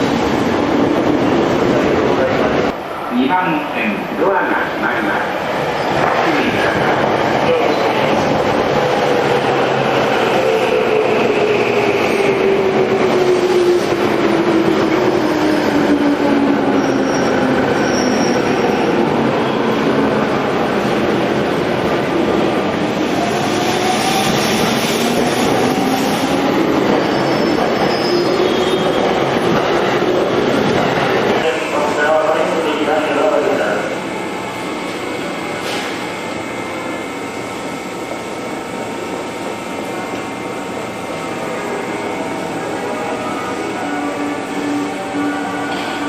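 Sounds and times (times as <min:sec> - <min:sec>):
electric train rumbling: 0:00.0 - 0:46.0.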